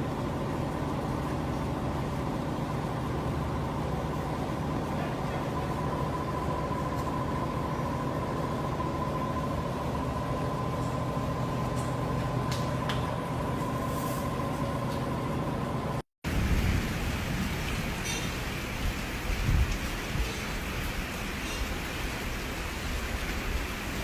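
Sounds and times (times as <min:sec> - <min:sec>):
machinery drone with whine: 0:00.0 - 0:21.6.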